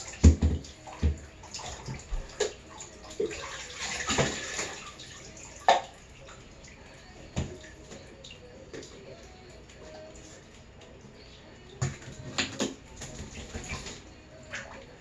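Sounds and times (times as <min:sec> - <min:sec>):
water splashing in bathtub: 0:00.0 - 0:15.0.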